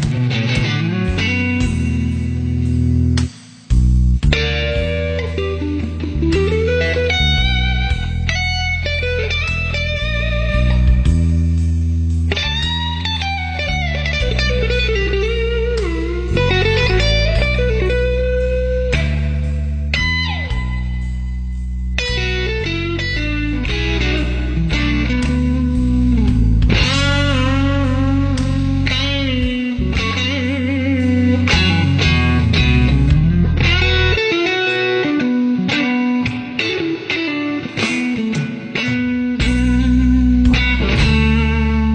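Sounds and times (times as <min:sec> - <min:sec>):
low bass line: 0:00.0 - 0:34.5, 0:39.0 - 0:41.9
electric guitar lead: 0:00.0 - 0:41.9.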